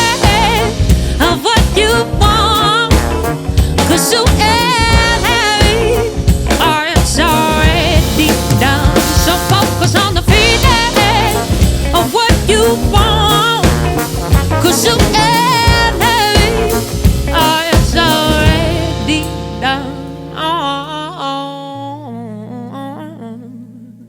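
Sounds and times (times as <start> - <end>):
drums: 0.0 - 20.3
live band playing: 0.0 - 20.9.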